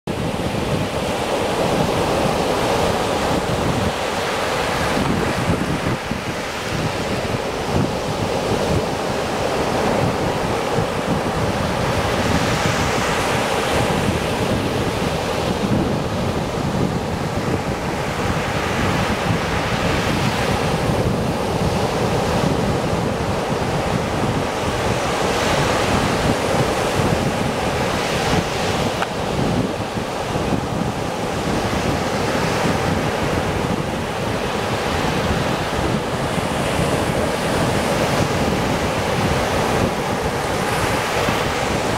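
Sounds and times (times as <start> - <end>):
surf washing up sand: 0.1 - 41.9
wind rumble on microphone: 0.1 - 41.9.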